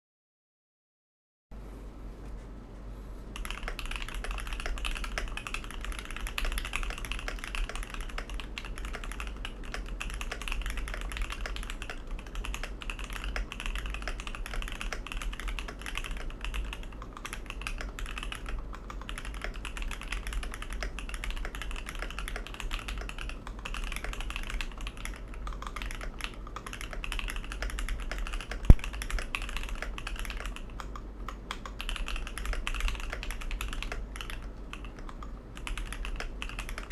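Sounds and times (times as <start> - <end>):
fast mechanical keyboard typing: 3.4 - 36.9.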